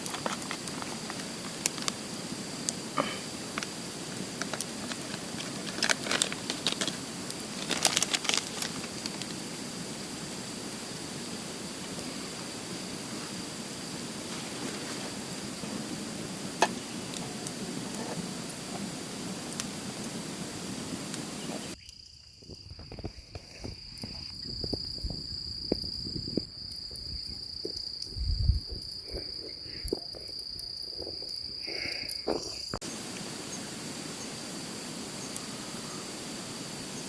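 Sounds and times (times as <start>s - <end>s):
insects trilling: 0.0s - 37.0s
steady hiss: 0.0s - 37.0s.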